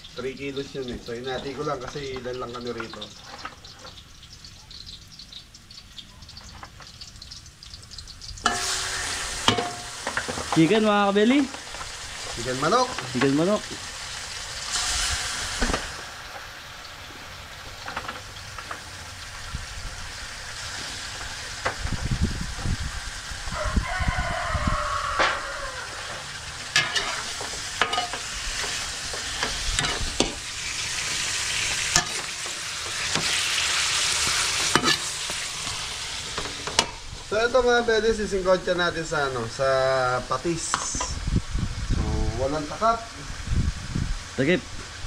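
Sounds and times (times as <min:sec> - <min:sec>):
chicken sizzling in hot oil: 0:00.0 - 0:45.0.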